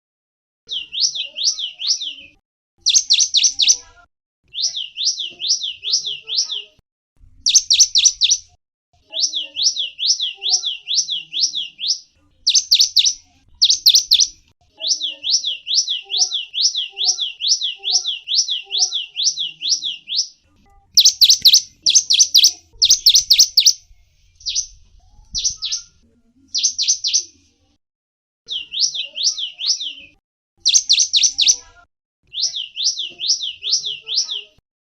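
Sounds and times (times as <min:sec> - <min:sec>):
songbird chirping: 0:00.7 - 0:27.6, 0:28.5 - 0:34.6.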